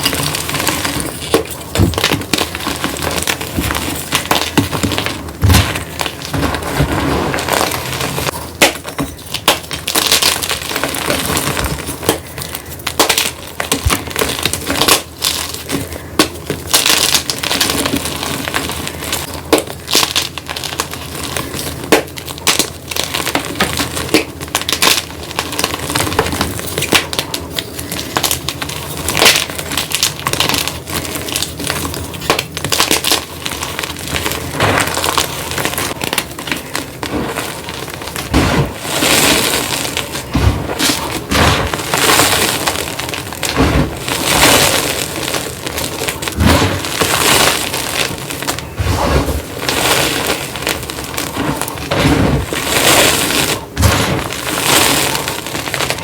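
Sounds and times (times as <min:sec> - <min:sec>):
chalk being crushed and crumbled: 0:00.0 - 0:56.0.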